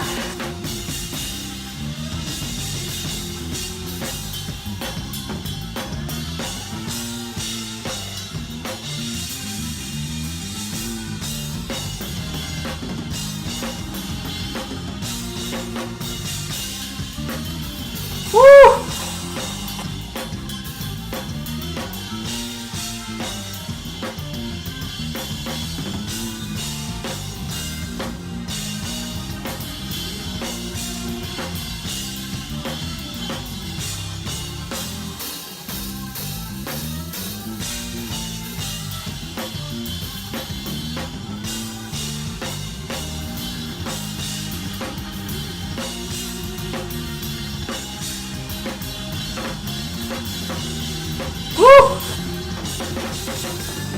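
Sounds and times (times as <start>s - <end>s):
band music: 0.0s - 53.9s
busy drum kit: 0.0s - 53.9s
moving bass line: 0.0s - 53.9s.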